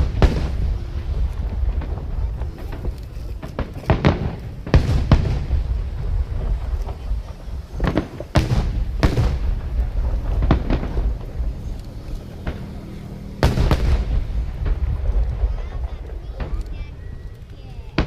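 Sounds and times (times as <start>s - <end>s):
fireworks bursting: 0.0s - 18.0s
low rumble of fireworks display: 0.0s - 18.0s.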